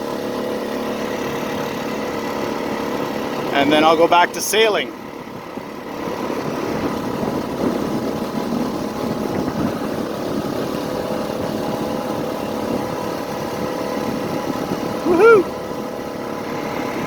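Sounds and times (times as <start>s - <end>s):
outboard motor running: 0.0s - 17.0s
wind and water rushing: 0.0s - 17.0s.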